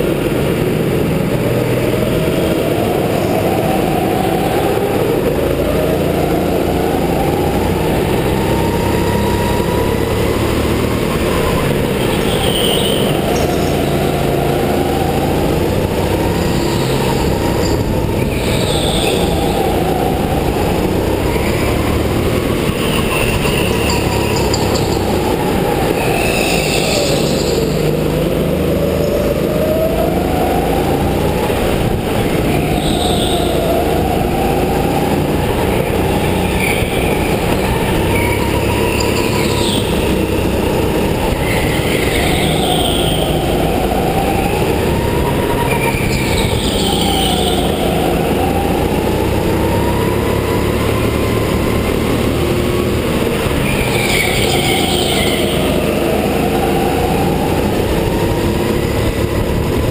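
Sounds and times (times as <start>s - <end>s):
go-kart motor whine: 0.0s - 59.9s.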